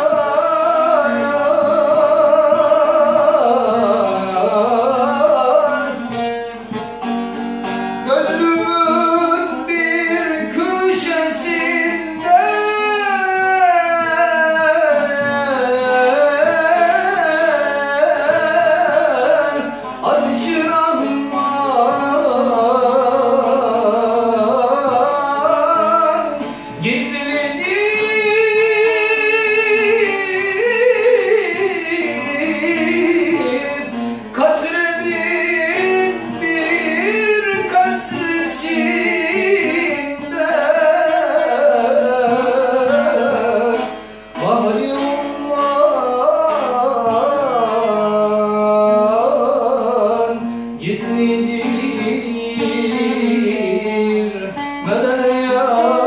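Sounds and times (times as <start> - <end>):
man singing a hymn: 0.0 - 6.1, 8.0 - 56.0
long-necked lute playing: 0.0 - 56.0.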